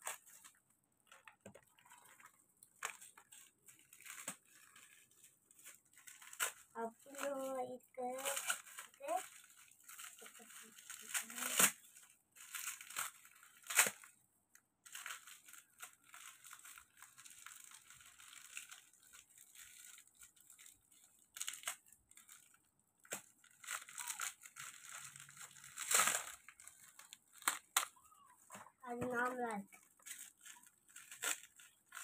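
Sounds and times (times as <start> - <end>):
plastic packaging crinkling and tearing: 0.0 - 32.0.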